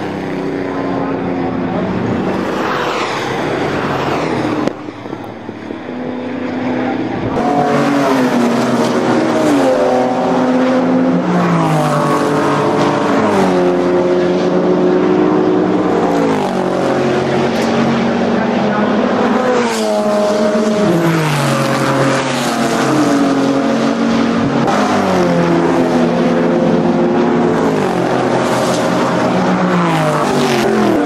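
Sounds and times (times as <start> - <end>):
racing car engines revving: 0.0 - 31.0.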